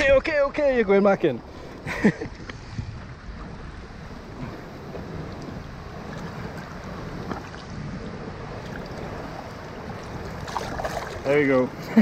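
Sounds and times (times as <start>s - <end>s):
wind on microphone: 1.3s - 12.0s
water lapping against boat: 1.4s - 12.0s.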